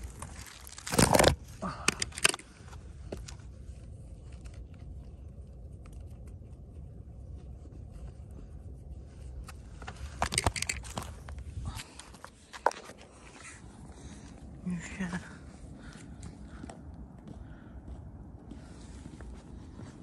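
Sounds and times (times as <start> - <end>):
wind rumbling on microphone: 2.5 - 20.0.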